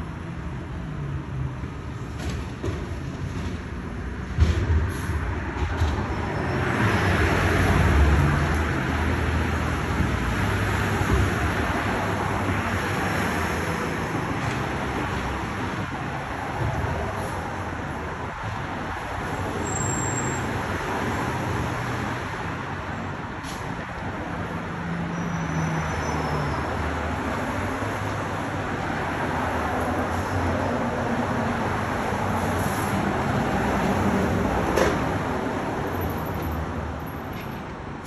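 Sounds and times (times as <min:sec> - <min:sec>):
street traffic: 0:00.0 - 0:38.0.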